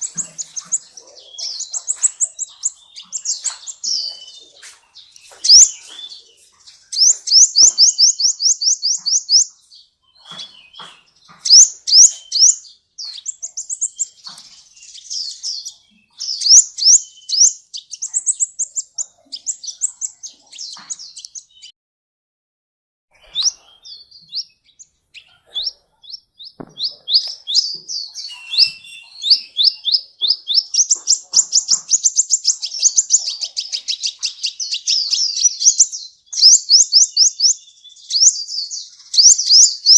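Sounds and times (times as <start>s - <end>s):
bird chirping: 0.0s - 21.7s, 23.1s - 39.9s.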